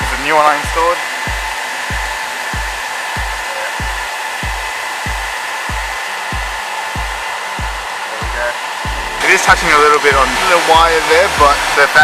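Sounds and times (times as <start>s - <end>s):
background music with thumping beat: 0.0s - 12.0s
radiator cooling fans running: 0.0s - 12.0s.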